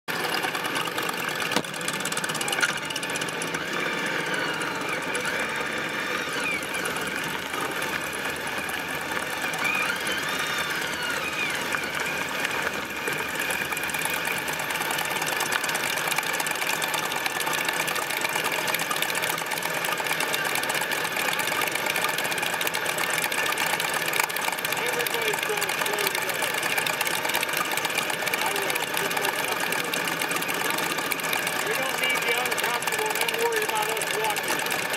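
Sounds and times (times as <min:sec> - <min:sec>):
motorcycles idling: 0:00.1 - 0:34.9.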